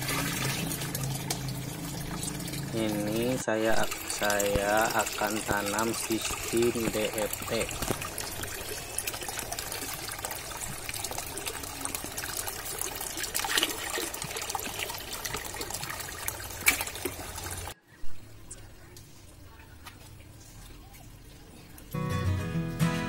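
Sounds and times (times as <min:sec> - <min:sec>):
water splashing in a tank: 0:00.0 - 0:22.0.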